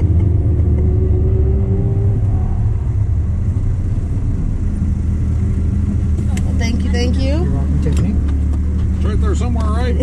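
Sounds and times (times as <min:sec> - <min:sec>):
car engine running at low revs: 0:00.0 - 0:10.0.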